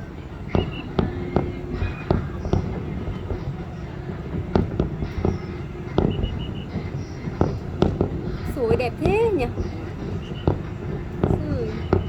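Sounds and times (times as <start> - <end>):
low rumble of fireworks: 0.0 - 12.0
sharp firework bangs: 0.3 - 12.0.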